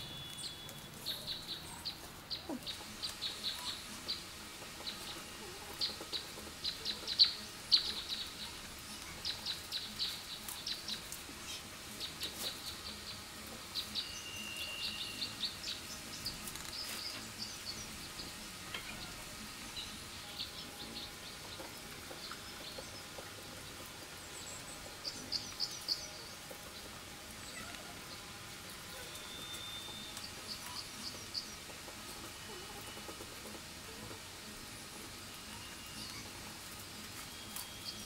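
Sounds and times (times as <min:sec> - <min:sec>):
palm leaves rustling: 0:00.0 - 0:38.0
small birds chirping: 0:00.0 - 0:38.0.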